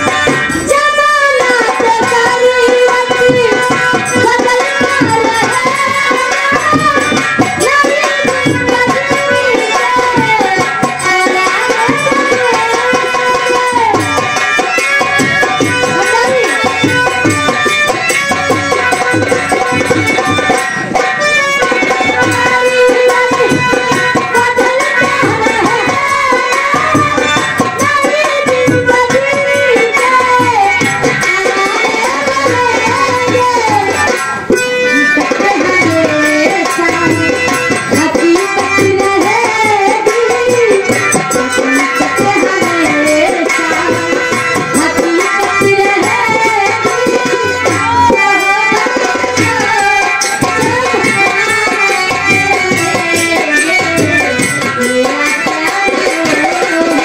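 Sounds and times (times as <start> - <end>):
instrumental accompaniment: 0.0 - 57.0
tabla drumming: 0.0 - 57.0
woman singing: 0.0 - 57.0.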